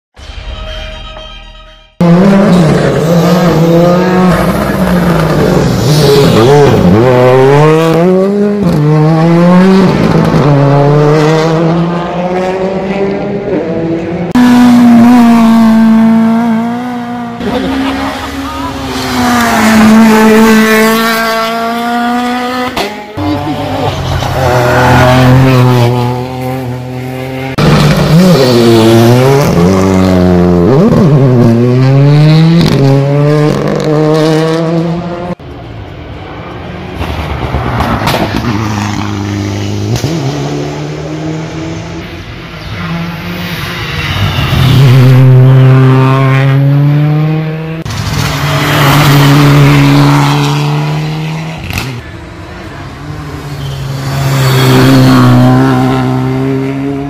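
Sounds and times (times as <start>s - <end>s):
rally car engines revving: 2.0s - 57.0s.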